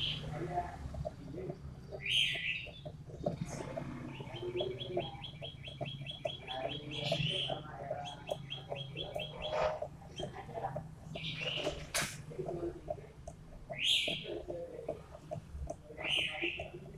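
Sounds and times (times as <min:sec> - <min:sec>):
low steady hum: 0:00.0 - 0:16.9
songbird chirping: 0:00.0 - 0:16.9.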